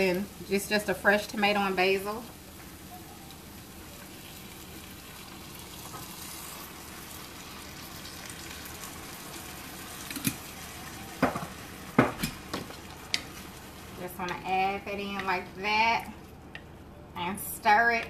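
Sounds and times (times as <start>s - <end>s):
vegetables sizzling in a pan: 0.0s - 16.1s.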